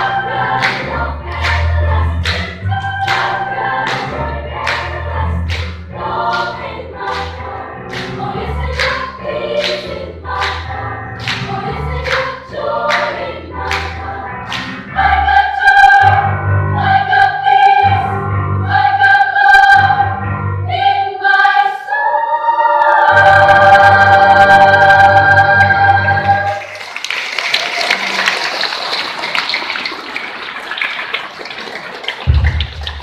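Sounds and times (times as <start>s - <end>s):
children's choir singing: 0.0s - 26.8s.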